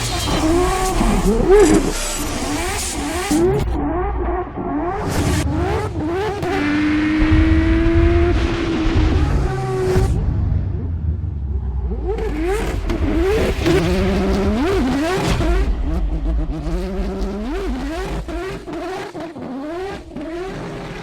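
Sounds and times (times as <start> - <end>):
rotary engine revving: 0.0 - 21.0.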